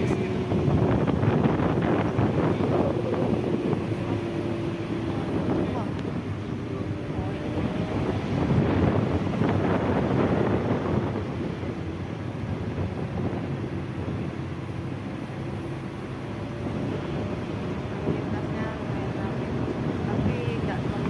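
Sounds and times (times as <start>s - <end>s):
car engine hum: 0.0s - 21.0s
road noise: 0.0s - 21.0s.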